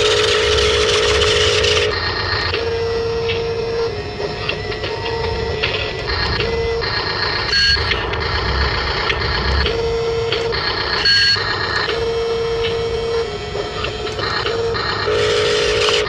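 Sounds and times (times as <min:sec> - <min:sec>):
electric motors and gearboxes whining: 0:00.0 - 0:16.0.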